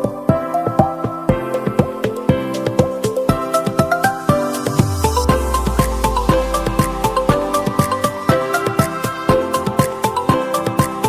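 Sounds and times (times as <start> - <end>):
music with beat and synth: 0.0 - 11.0.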